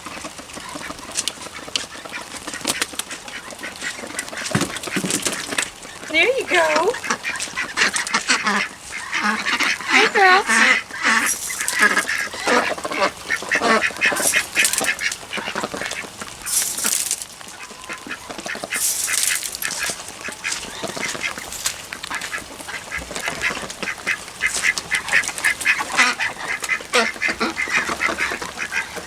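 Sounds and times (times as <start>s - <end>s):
ducks quacking: 0.0s - 29.0s.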